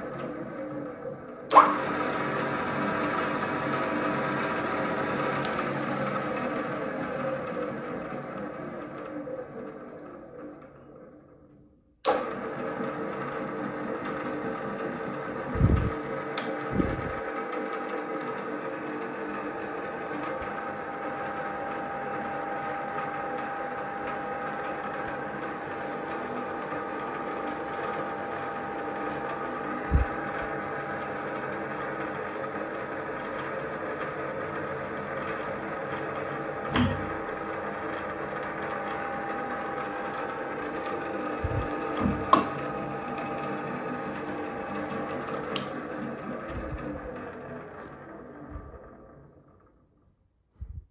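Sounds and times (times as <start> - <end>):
drill press motor whine: 0.0 - 50.2.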